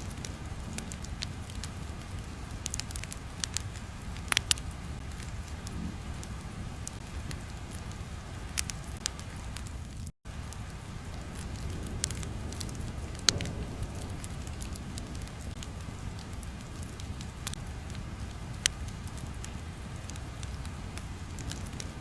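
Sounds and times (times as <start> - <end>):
fire crackling: 0.0 - 22.0
sharp pops of fire: 0.0 - 22.0.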